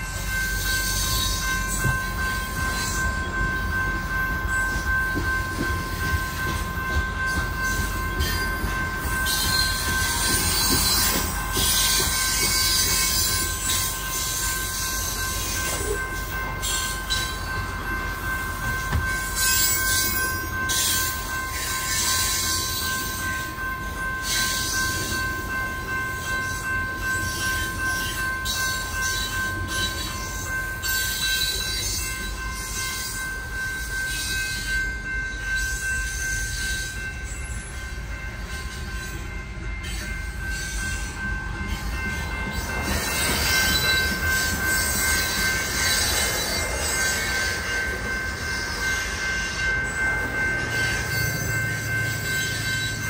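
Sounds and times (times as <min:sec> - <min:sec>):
freight train rumble and rattle: 0:00.0 - 0:53.0
train wheels squealing: 0:00.0 - 0:53.0.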